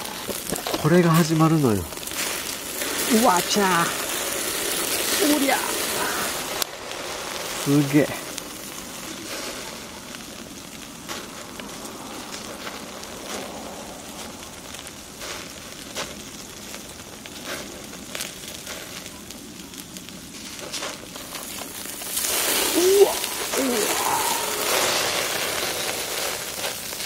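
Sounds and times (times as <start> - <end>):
fat sizzling in flames: 0.0 - 27.0
wood fire crackling and popping: 0.0 - 27.0.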